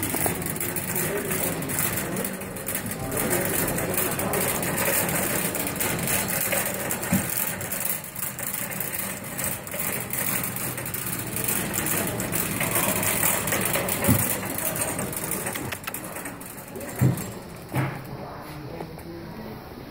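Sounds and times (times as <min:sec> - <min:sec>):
metal basket rattling: 0:00.0 - 0:18.0
cart bumping: 0:00.0 - 0:18.3
shopping cart wheels rumbling: 0:00.0 - 0:19.2.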